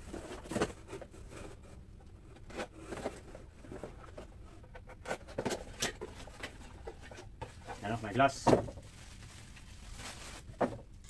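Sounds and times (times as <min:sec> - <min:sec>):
cardboard rustling and scraping: 0:00.0 - 0:11.0.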